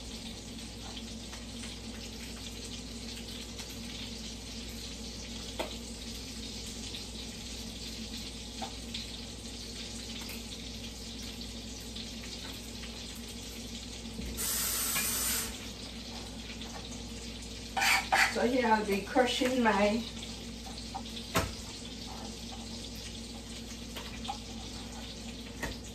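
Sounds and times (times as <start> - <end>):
kitchen tap running: 0.0 - 25.9
sausage sizzling in a skillet: 0.0 - 25.9.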